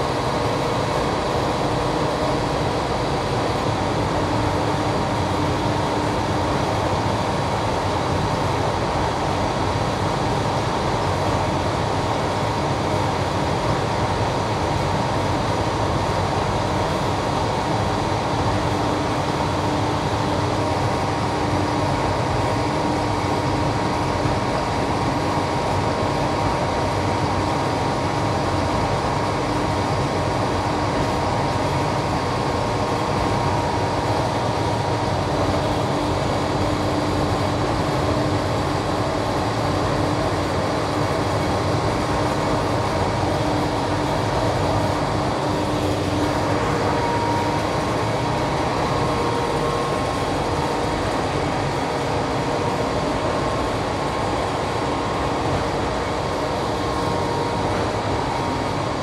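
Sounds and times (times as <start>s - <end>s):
constant machine whine: 0.0s - 59.0s.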